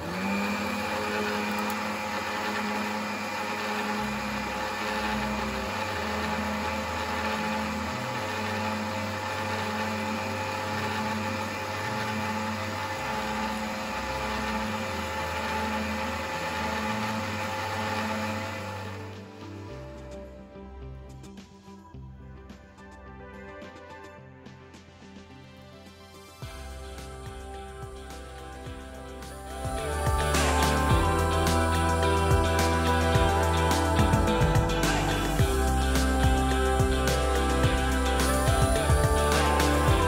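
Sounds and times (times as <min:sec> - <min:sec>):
blender motor running: 0:00.0 - 0:20.0, 0:26.4 - 0:40.0.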